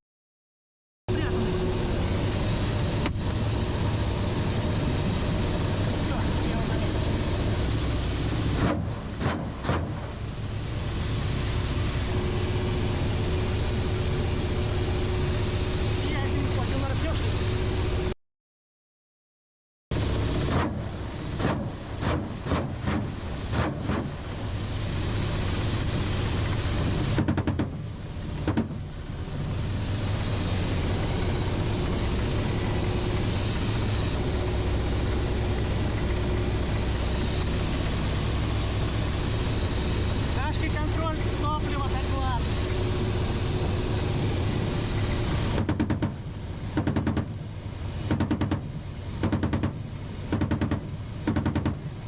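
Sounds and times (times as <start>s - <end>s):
helicopter engine and rotor drone: 1.1s - 18.1s, 24.2s - 52.0s.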